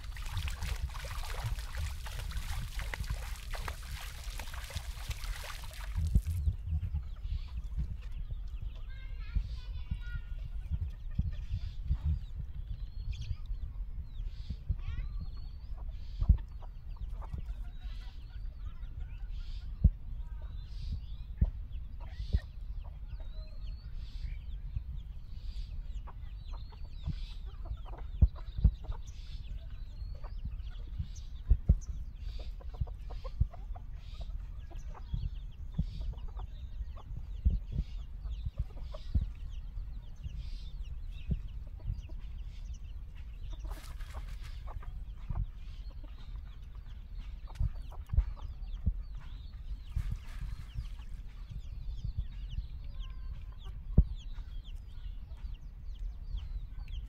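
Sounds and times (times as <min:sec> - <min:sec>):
steady low rumble: 0:00.0 - 0:19.2, 0:19.8 - 0:57.0
birds chirping: 0:00.0 - 0:57.0.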